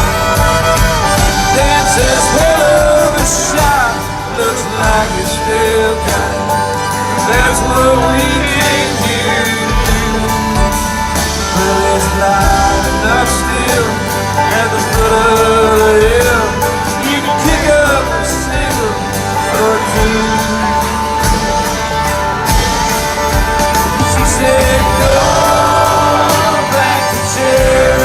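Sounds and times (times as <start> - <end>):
drumbeat: 0.0 - 28.0
gliding lead melody: 0.0 - 28.0
guitars: 0.0 - 28.0.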